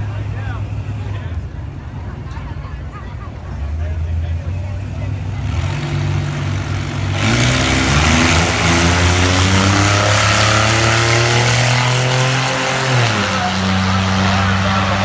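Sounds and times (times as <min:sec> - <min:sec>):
drag racing car engines revving: 0:00.0 - 0:15.0.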